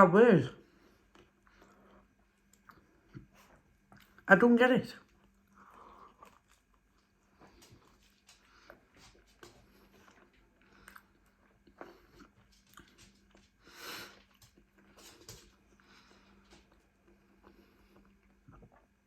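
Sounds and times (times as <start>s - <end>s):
chewing food: 0.7s - 4.3s, 5.0s - 19.0s.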